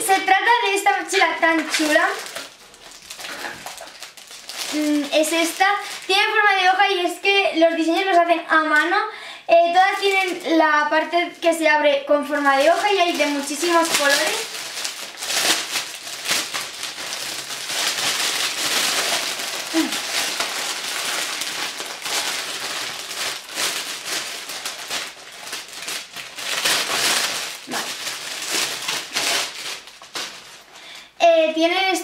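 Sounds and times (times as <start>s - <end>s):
plastic bag crinkling: 0.0s - 7.1s, 9.7s - 11.6s, 12.2s - 31.0s.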